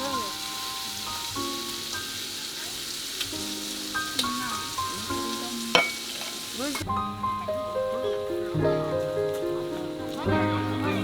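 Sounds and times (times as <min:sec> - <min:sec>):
food sizzling in a pan: 0:00.0 - 0:11.0
soft background music: 0:00.0 - 0:11.0.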